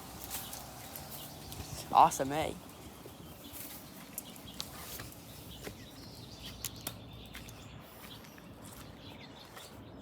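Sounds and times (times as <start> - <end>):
bird chirps: 0.2 - 10.0.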